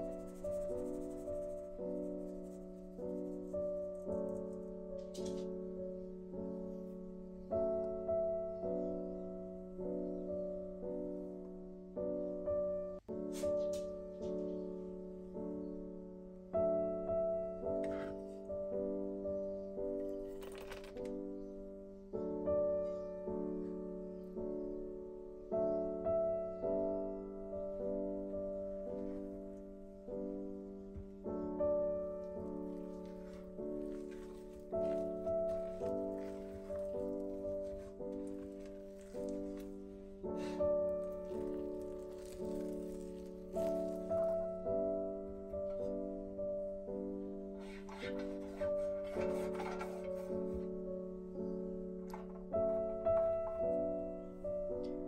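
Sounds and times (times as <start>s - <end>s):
gentle solo piano: 0.0s - 55.0s.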